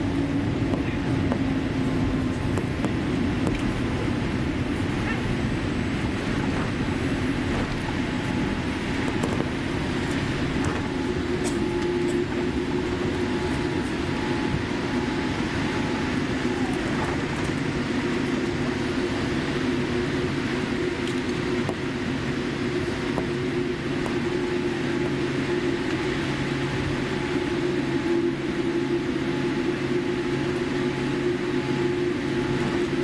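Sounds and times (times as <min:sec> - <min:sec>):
aircraft engines rumbling: 0:00.0 - 0:33.0.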